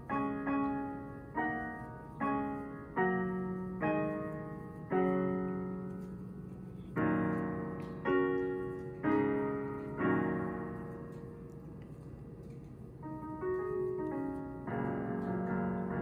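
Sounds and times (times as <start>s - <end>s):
piano chords ringing: 0.0s - 16.0s.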